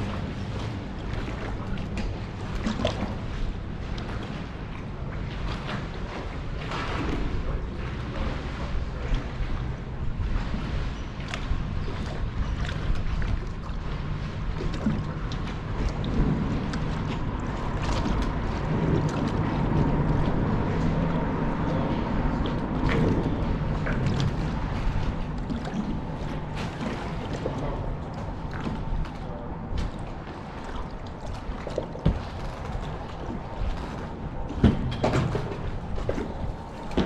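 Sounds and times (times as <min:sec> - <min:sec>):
water slapping boat hull: 0:00.0 - 0:37.0
wind buffeting microphone: 0:00.0 - 0:37.0.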